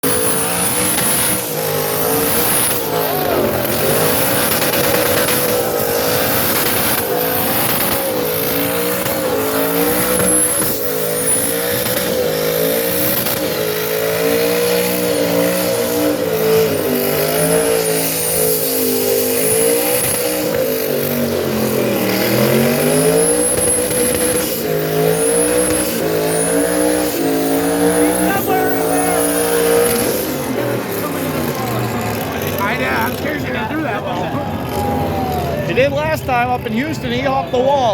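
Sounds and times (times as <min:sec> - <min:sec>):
race car engine revving: 0:00.0 - 0:37.9.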